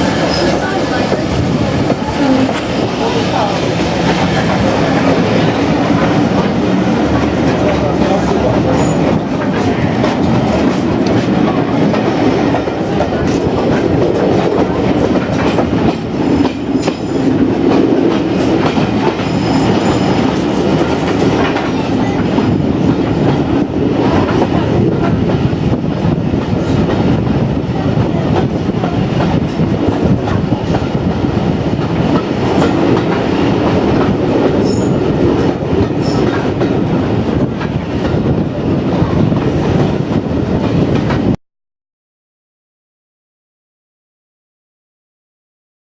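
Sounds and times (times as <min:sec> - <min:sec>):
train wheels clickety-clack: 0:00.0 - 0:41.4.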